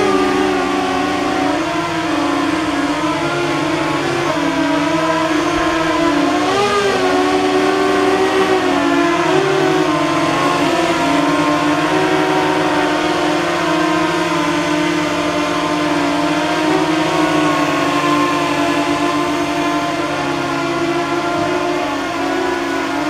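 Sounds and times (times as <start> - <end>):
propellers whining: 0.0 - 23.0.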